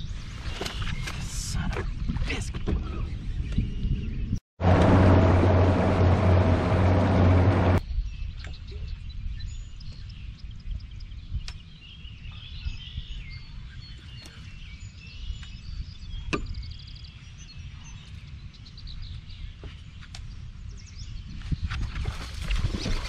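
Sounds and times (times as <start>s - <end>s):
wind rumble on microphone: 0.0s - 23.0s
wild birds chirping and singing: 0.2s - 4.4s, 7.8s - 22.2s.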